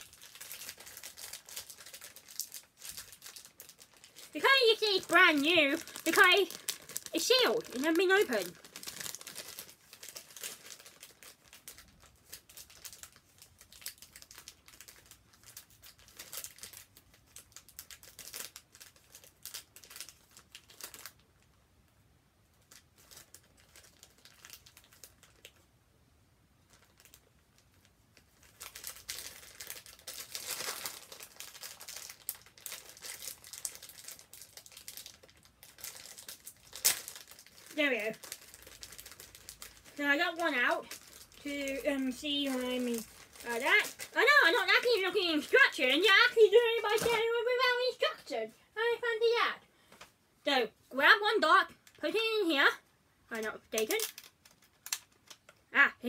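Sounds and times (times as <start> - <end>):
plastic bag crinkling: 0.0 - 21.6, 22.5 - 25.7, 26.6 - 48.4, 53.3 - 55.7.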